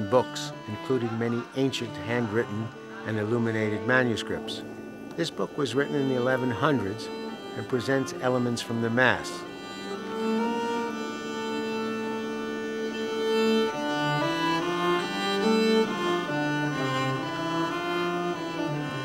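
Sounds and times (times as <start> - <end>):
slow held-note music: 0.0 - 19.0.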